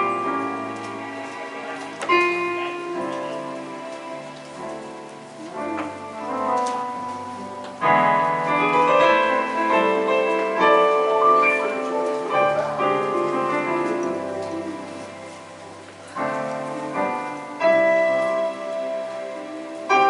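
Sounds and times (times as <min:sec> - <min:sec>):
church keyboard chords: 0:00.0 - 0:20.0.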